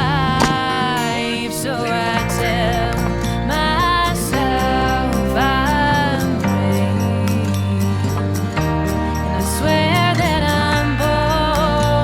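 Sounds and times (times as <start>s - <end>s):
song with singing and bass: 0.0s - 12.0s.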